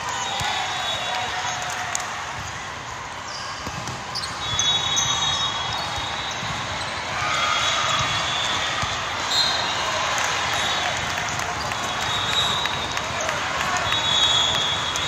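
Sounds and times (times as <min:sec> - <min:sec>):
volleyballs hit and bouncing: 0:00.0 - 0:15.0.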